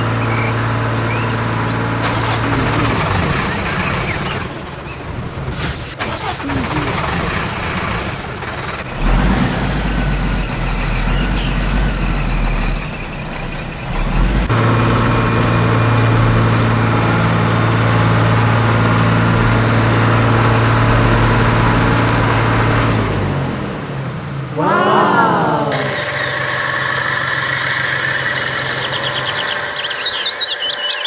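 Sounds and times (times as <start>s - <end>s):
truck engine rumbling: 1.8s - 31.0s.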